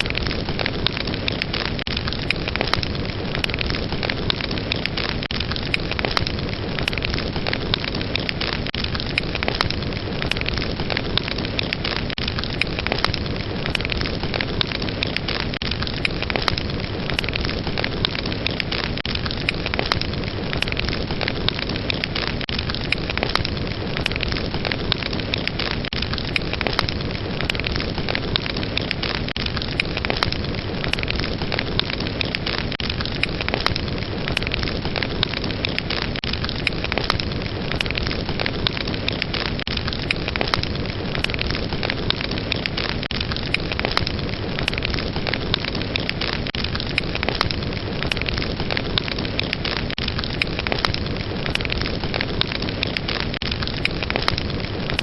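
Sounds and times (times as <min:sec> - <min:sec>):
fire roaring and crackling: 0:00.0 - 0:55.0.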